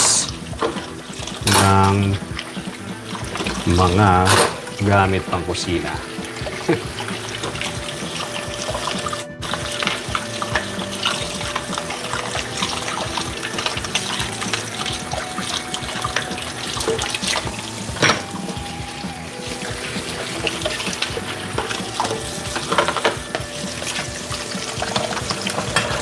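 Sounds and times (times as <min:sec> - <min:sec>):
crockery and utensils clinking: 0:00.0 - 0:26.0
dishes being scrubbed: 0:00.0 - 0:26.0
faucet running into steel sink: 0:00.0 - 0:26.0.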